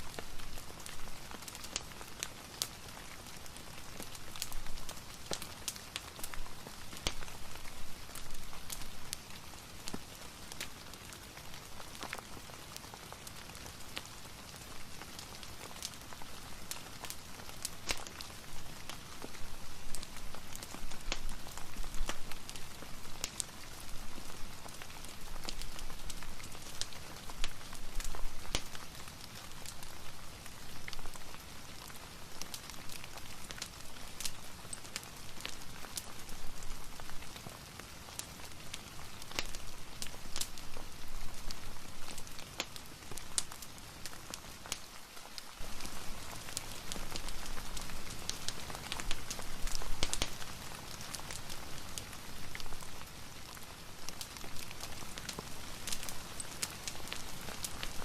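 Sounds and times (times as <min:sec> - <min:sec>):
rain patter: 0:00.0 - 0:58.0
wood fire crackling: 0:00.0 - 0:58.0.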